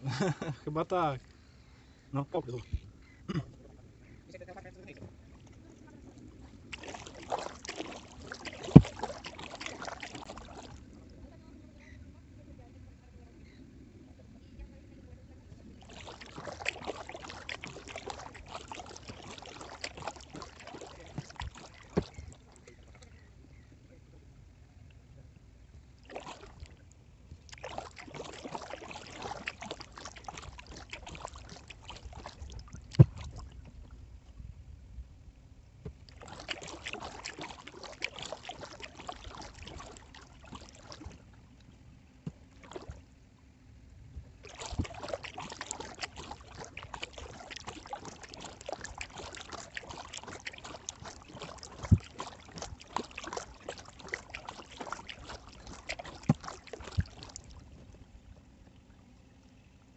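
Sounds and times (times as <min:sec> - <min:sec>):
paddle splashing water: 0:00.0 - 0:34.6, 0:35.5 - 0:59.9.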